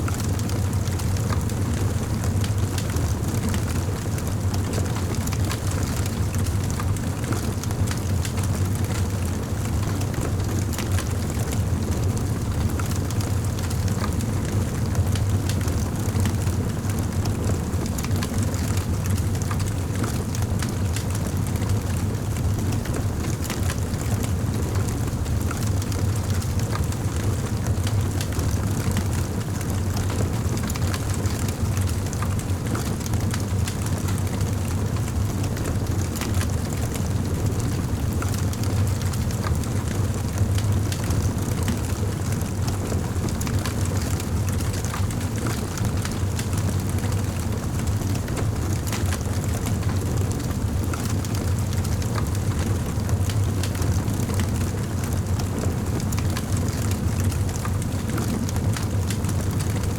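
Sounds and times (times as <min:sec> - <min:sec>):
wood fire crackling: 0:00.1 - 0:11.6, 0:12.4 - 0:16.1, 0:16.7 - 0:59.8.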